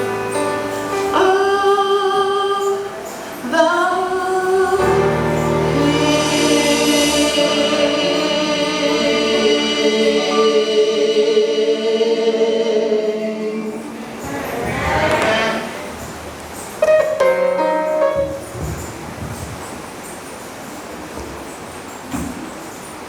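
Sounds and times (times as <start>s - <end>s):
voices singing a hymn: 0.0s - 18.7s.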